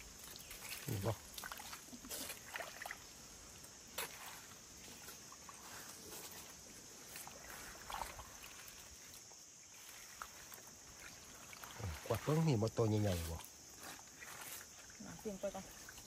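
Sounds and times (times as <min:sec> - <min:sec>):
muddy water sloshing and splashing: 0:00.0 - 0:16.0.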